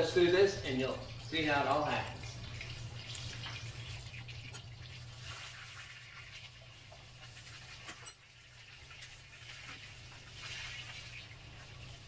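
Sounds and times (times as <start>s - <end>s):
chicken frying in hot oil: 0.0s - 12.0s
low steady hum: 0.0s - 12.0s.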